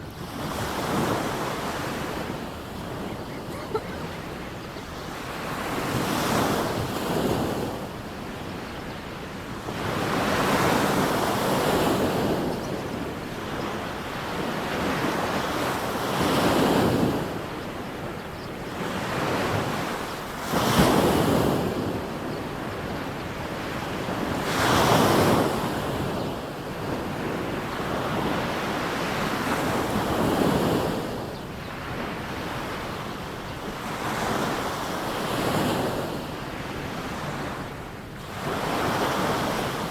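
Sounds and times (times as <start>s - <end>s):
sea waves breaking on beach: 0.0s - 8.6s, 9.3s - 39.9s.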